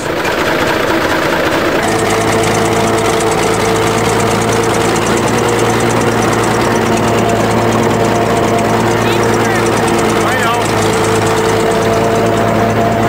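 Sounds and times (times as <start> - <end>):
bulldozer engine running: 0.0 - 13.0.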